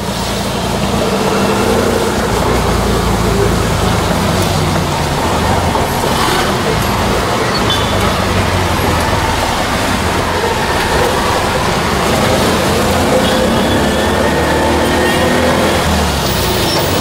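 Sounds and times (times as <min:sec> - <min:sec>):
auto-rickshaw engine running: 0:00.0 - 0:17.0
traffic and road noise: 0:00.0 - 0:17.0.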